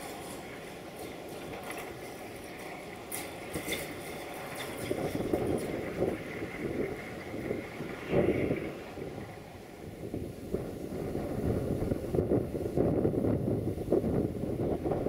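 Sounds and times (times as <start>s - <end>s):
diesel locomotive idling: 0.0s - 12.8s
wind buffeting microphone: 0.0s - 15.0s.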